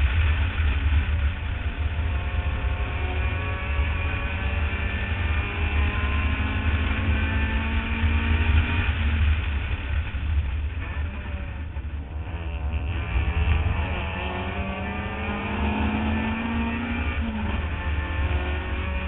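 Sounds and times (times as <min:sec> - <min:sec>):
race car engine at high revs: 0:00.0 - 0:19.0
wind noise rumble: 0:00.0 - 0:19.0.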